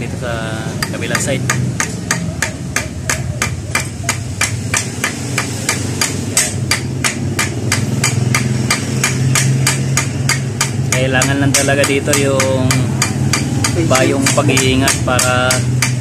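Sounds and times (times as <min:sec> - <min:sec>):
hammer striking steel punch: 0:00.8 - 0:16.0.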